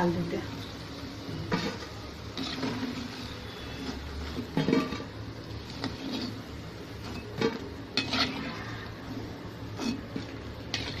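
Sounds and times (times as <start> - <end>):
oil sizzling: 0.0 - 11.0
metal spoon scraping a pan: 1.4 - 11.0.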